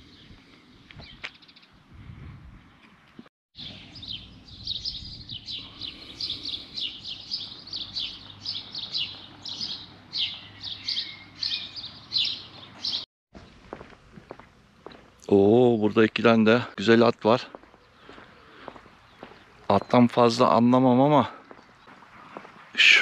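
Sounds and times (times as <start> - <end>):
songbirds chirping: 0.0 - 2.0, 2.6 - 23.0.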